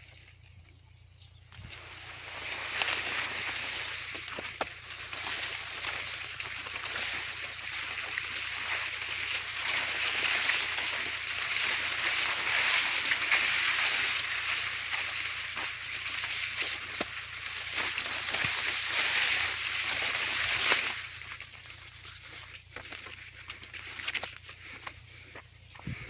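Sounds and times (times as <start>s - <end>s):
leaves rustling in wind: 1.5s - 24.6s.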